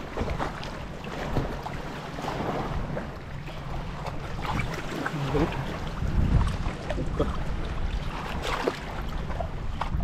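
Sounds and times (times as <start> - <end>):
seawater splashing and sloshing: 0.0 - 10.0
wind rumbling on microphone: 0.0 - 10.0.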